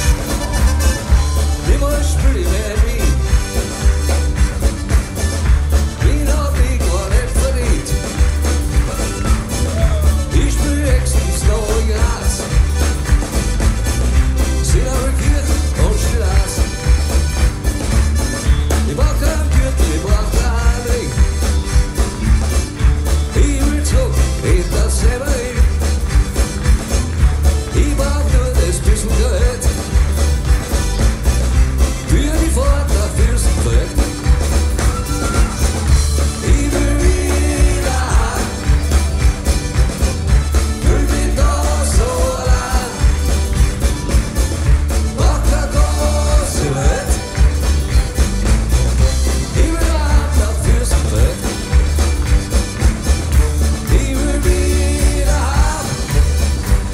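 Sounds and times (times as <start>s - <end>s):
accordion: 0.0s - 56.9s
live band playing: 0.0s - 56.9s
pulsing electric bass line: 0.0s - 56.9s
strummed acoustic guitars: 0.0s - 56.9s.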